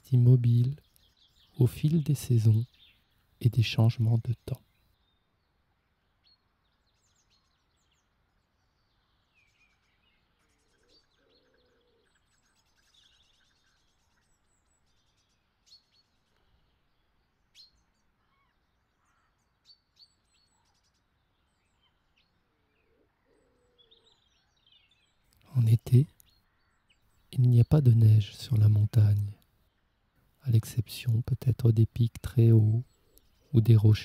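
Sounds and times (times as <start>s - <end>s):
faint birdsong chirps: 0.0s - 34.0s.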